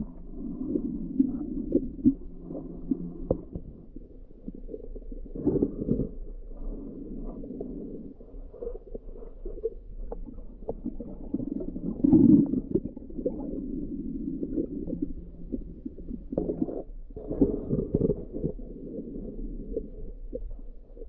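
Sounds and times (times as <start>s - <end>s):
muffled underwater water rumble: 0.0s - 21.0s.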